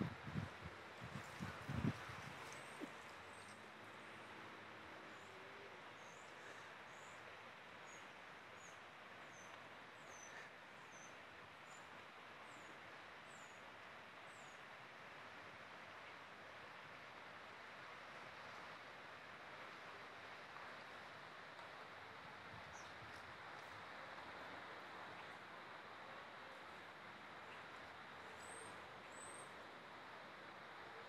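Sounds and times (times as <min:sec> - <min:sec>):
faint steady hiss: 0:00.0 - 0:31.0.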